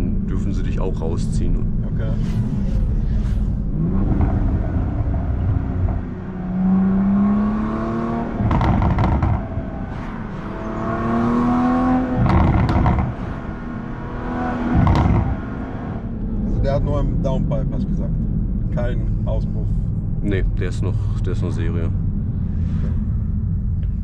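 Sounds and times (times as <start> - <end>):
car engine accelerating hard: 3.6 - 24.0
exhaust crackle at upshift: 3.6 - 24.0.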